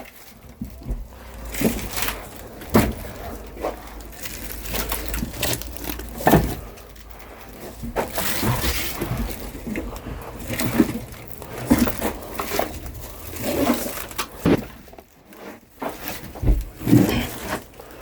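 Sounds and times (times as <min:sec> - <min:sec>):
firewood logs knocking together: 0:00.0 - 0:18.0.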